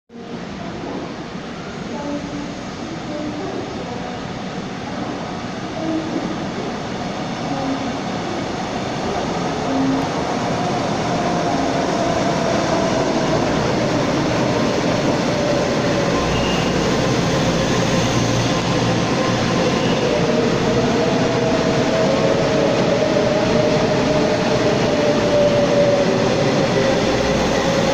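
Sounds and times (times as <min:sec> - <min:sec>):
train running noise: 0:00.2 - 0:27.9.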